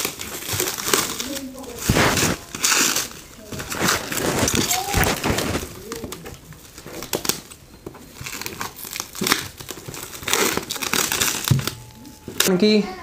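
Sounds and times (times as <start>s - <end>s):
plastic shrink wrap crinkling: 0.0s - 13.0s.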